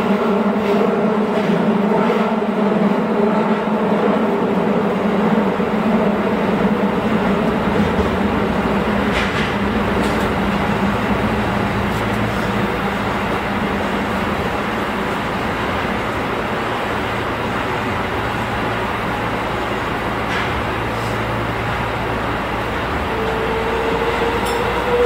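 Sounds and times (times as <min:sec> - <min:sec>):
multi-tone train hum: 0:00.0 - 0:25.0
wheels rumbling on rail: 0:00.0 - 0:25.0.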